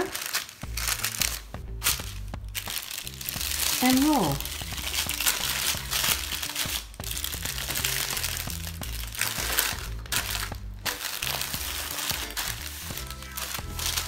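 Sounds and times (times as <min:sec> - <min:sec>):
background music: 0:00.0 - 0:14.0
wax paper crinkling: 0:00.0 - 0:14.0.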